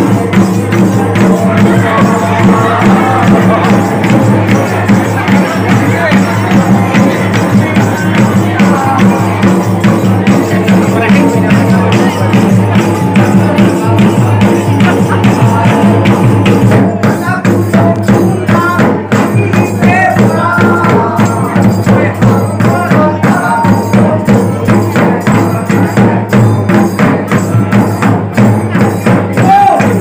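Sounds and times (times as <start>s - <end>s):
person singing: 0.0s - 27.4s
barrel drums beating fast: 0.0s - 30.0s.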